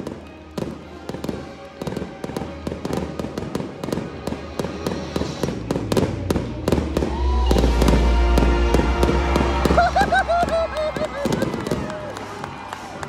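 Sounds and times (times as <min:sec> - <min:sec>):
fireworks crackling and popping: 0:00.0 - 0:13.0
marching band music: 0:00.0 - 0:13.0.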